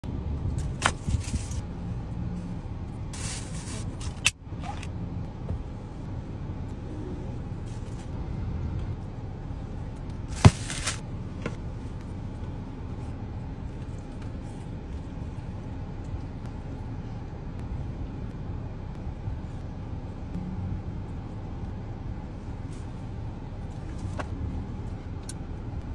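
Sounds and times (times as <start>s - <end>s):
car engine idling: 0.8s - 25.9s.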